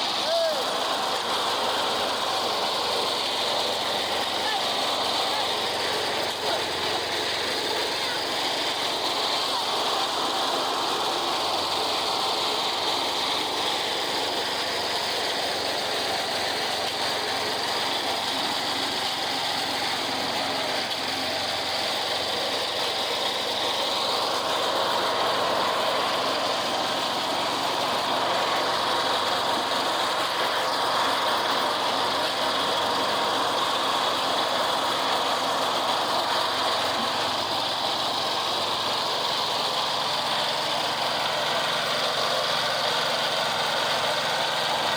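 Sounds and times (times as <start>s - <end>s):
construction machine engine running: 0.0s - 44.9s.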